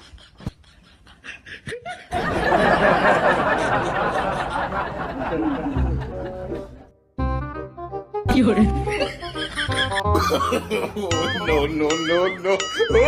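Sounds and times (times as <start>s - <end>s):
people laughing: 0.0s - 6.9s, 8.8s - 13.0s.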